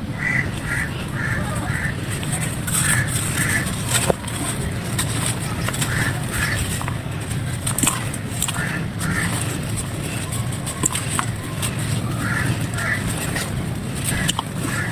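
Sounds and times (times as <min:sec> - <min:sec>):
short calls: 0:00.0 - 0:14.9
steady low rumble: 0:00.0 - 0:14.9.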